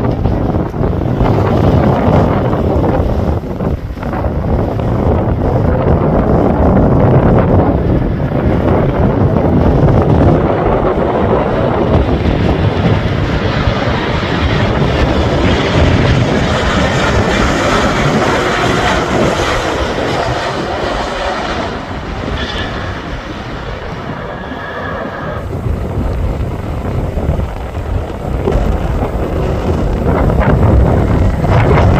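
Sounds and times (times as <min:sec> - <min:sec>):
jet airliner rumble: 0:00.0 - 0:31.9
wind buffeting microphone: 0:00.0 - 0:31.9.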